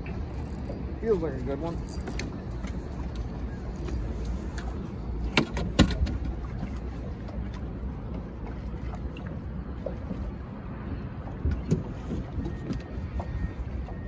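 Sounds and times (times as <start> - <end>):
river water: 0.0 - 14.0.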